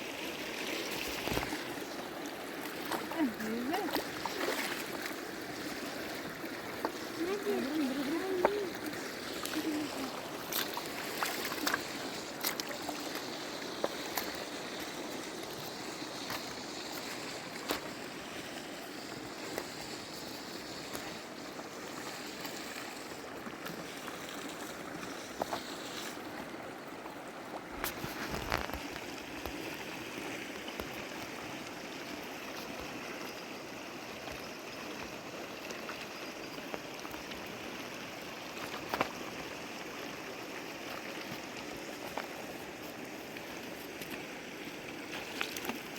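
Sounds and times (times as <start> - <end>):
stream flowing: 0.0 - 45.9.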